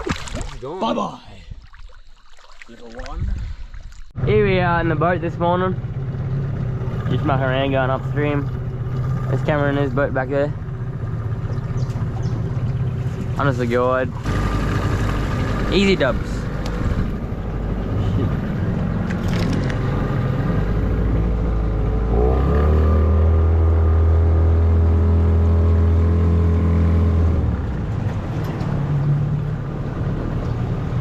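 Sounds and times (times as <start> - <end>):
outboard motor running: 4.2 - 31.0.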